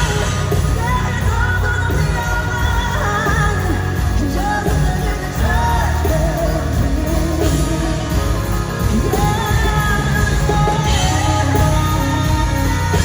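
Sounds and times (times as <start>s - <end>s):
loud full band with heavy bass: 0.0s - 13.0s
woman singing lead: 0.0s - 13.0s.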